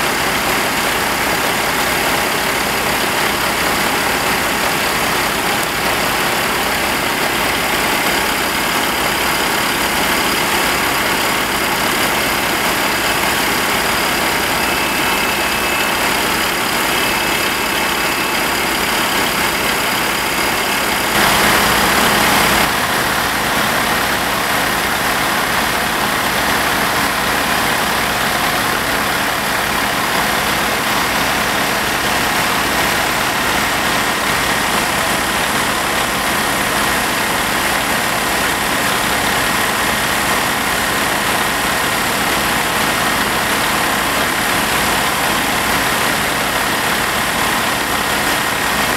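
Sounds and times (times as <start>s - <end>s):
fire engine pump running: 0.0s - 48.9s.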